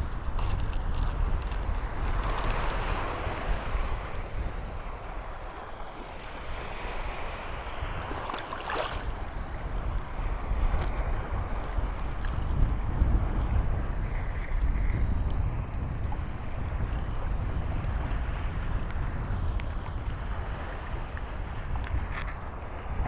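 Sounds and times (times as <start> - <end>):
waves washing over reef: 0.0 - 23.0
wind buffeting microphone: 0.0 - 23.0.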